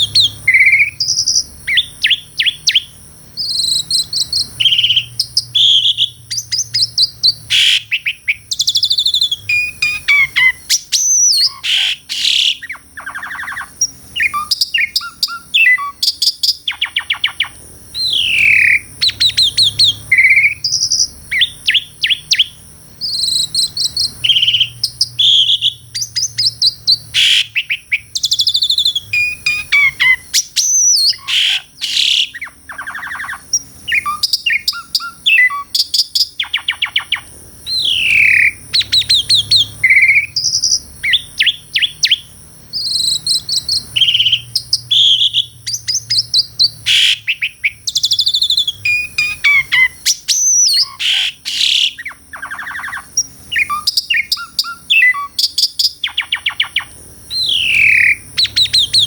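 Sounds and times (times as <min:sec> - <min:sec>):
starling singing whistles and rattles: 0:00.0 - 0:59.0.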